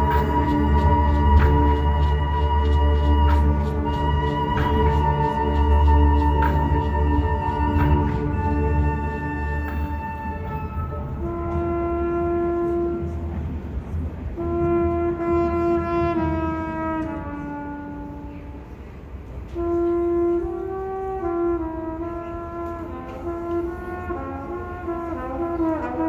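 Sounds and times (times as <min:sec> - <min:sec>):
brass section playing held chords: 0:00.0 - 0:13.4, 0:14.4 - 0:18.7, 0:19.6 - 0:26.0.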